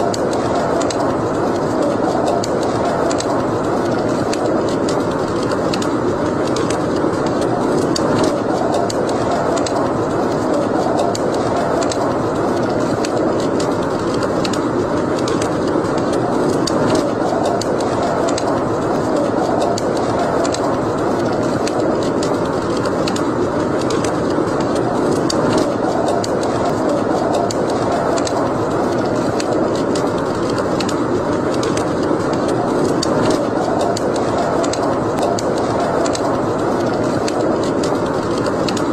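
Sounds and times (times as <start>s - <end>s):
fire crackles and pops: 0.0s - 38.9s
wood fire burning: 0.0s - 38.9s.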